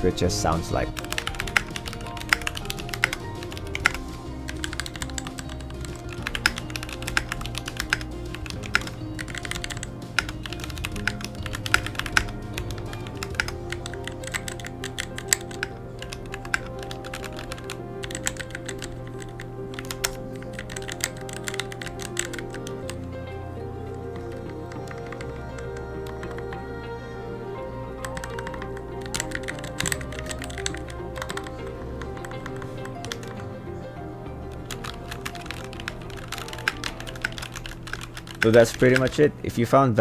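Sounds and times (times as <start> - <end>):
mechanical keyboard typing: 0.0 - 26.9, 28.0 - 33.6, 34.4 - 39.3
background music: 0.0 - 40.0.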